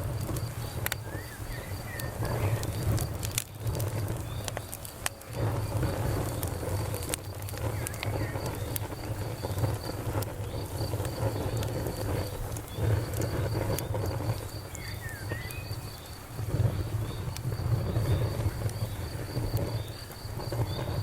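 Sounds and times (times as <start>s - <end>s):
campfire crackling and popping: 0.0s - 21.0s
crickets chirping: 0.0s - 21.0s.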